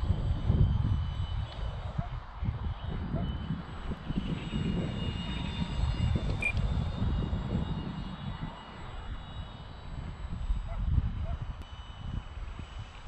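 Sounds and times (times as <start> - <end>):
rc model motor whine: 0.0 - 13.0
wind buffeting microphone: 0.0 - 13.0.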